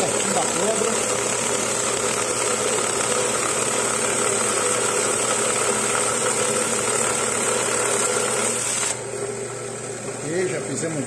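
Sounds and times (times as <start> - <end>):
saw blade grinding crystal: 0.0 - 9.0
machine hum: 0.0 - 11.0.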